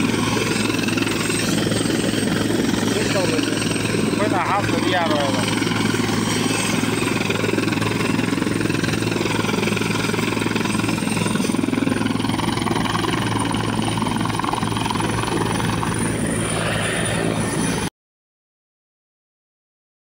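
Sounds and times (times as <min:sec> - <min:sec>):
helicopter rotor and turbine: 0:00.0 - 0:17.9.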